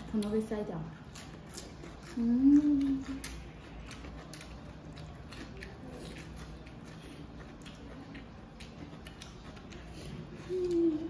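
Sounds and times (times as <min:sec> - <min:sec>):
low steady hum: 0:00.0 - 0:11.0
people chewing: 0:00.0 - 0:11.0.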